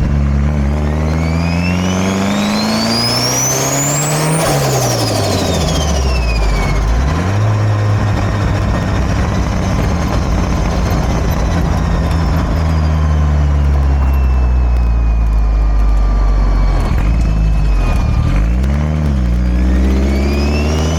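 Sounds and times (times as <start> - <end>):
turbocharged car engine revving: 0.0 - 20.9
high turbo whistle: 0.7 - 20.9.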